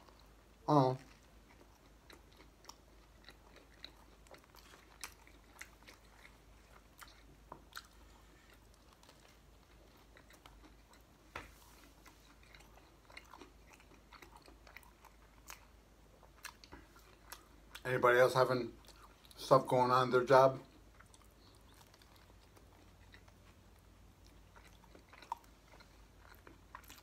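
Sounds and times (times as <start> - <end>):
person chewing with soft crunches: 0.0 - 27.0.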